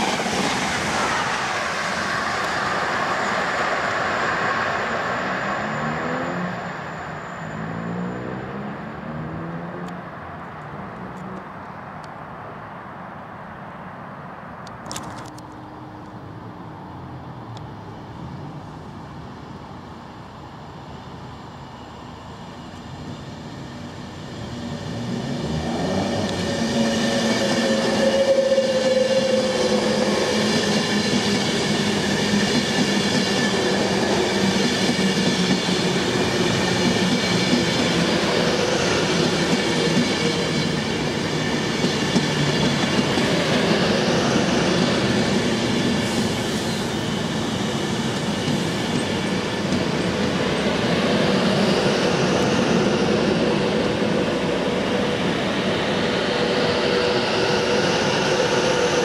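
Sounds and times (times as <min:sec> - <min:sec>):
electric train passing: 0:00.0 - 0:59.0.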